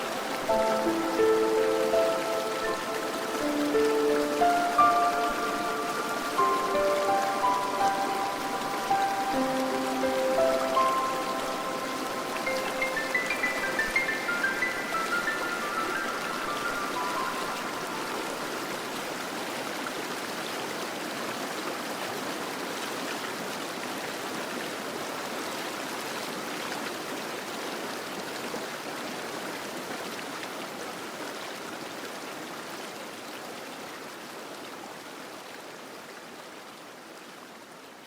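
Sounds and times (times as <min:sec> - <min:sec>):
fountain water splashing: 0:00.0 - 0:35.7.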